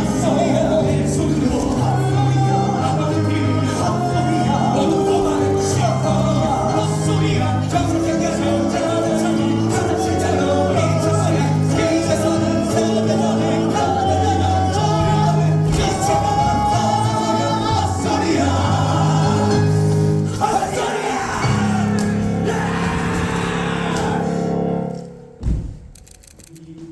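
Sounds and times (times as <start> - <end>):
men singing show tune: 0.0 - 24.4.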